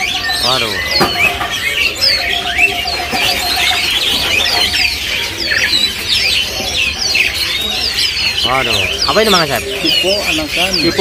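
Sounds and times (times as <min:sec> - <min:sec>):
quickly repeated low bird notes: 0:00.0 - 0:11.0
songbirds chirping: 0:00.0 - 0:11.0.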